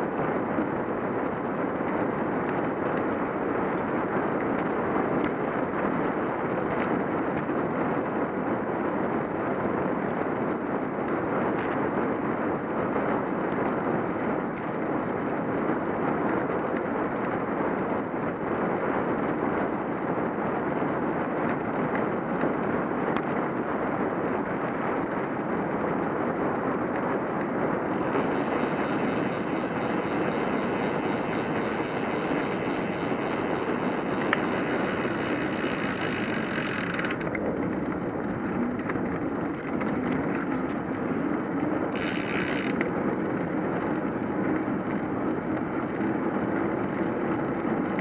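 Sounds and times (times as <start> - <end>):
bicycle tyre noise on road: 0.0 - 48.0
wind on microphone: 0.0 - 48.0.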